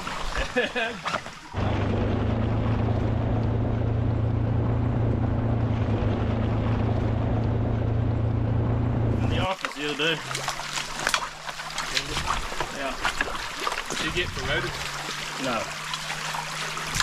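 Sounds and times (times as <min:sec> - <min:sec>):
engine humming steadily: 0:01.5 - 0:17.0.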